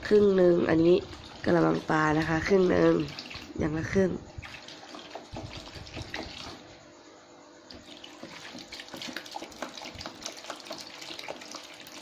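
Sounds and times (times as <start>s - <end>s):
liquid sloshing in a basin: 0.0s - 6.8s, 7.7s - 12.0s.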